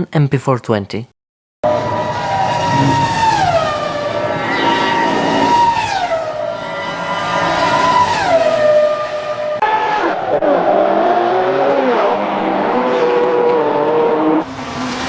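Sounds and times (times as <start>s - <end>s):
racing car engine note: 1.6s - 15.0s.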